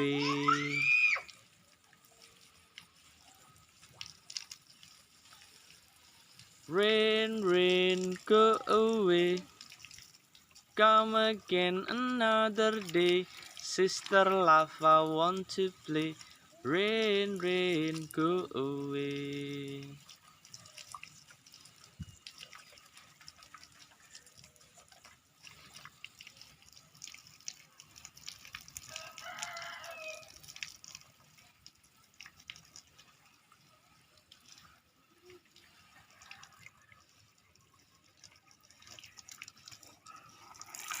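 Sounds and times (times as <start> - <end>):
rain dripping and pattering: 0.0 - 41.0.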